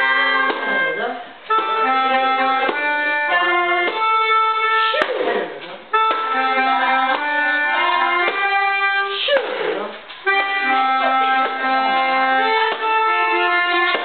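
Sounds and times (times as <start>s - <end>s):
melodicas playing melody: 0.0s - 14.0s.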